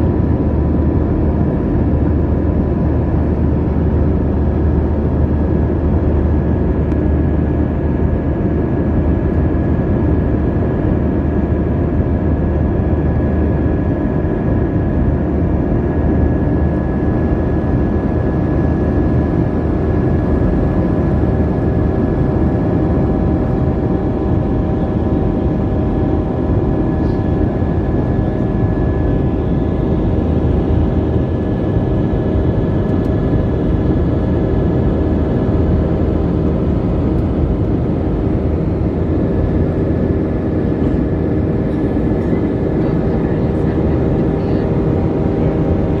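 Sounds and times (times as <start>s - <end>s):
jet engine drone in cabin: 0.0s - 46.0s.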